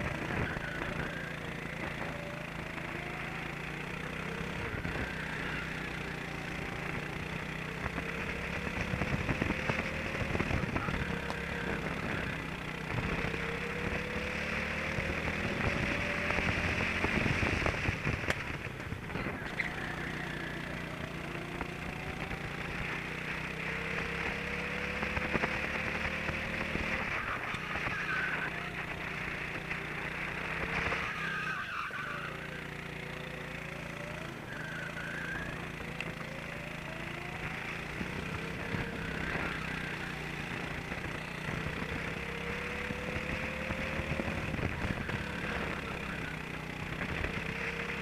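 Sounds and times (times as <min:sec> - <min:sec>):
racing kart engine revving: 0:00.0 - 0:48.0.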